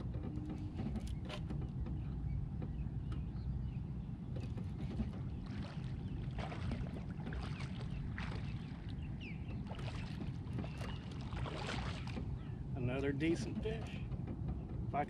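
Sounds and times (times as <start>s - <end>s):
low wind: 0.0s - 15.0s
water rumble: 0.0s - 15.0s.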